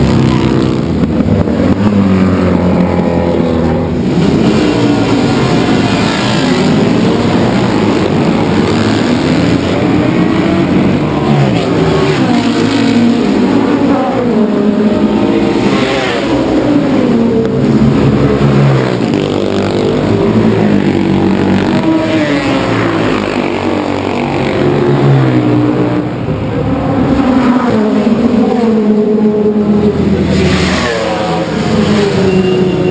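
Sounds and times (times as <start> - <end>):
racing motorcycles accelerating: 0.0 - 32.9.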